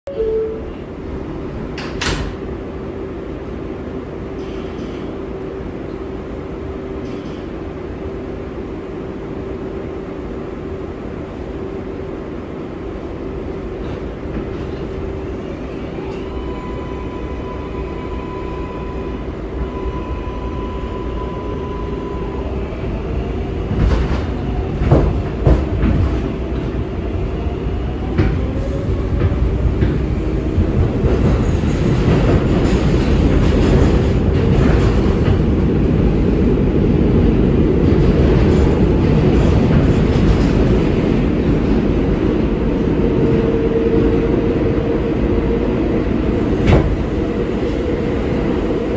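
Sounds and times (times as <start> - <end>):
subway train rumble: 0.0 - 48.9.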